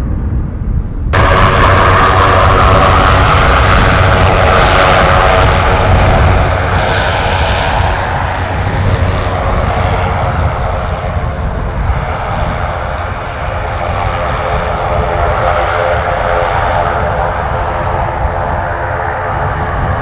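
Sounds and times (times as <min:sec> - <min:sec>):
aircraft engines droning: 0:01.2 - 0:20.0.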